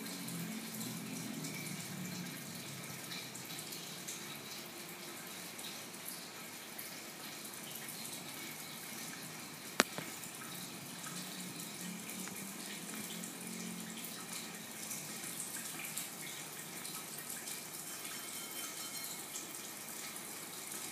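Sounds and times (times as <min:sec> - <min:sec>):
aquarium filter water bubbling: 0:00.0 - 0:20.9.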